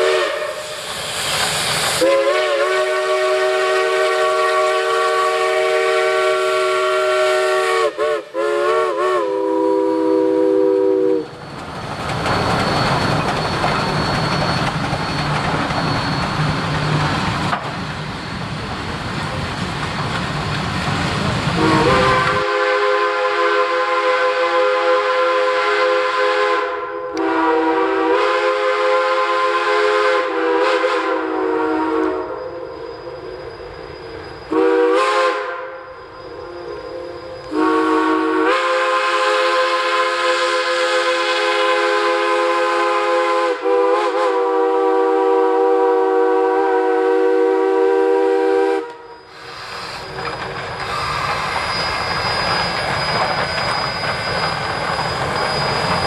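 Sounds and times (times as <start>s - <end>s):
steam locomotive chime whistle: 0.0s - 1.1s, 2.0s - 11.8s, 12.4s - 17.1s, 21.6s - 56.0s.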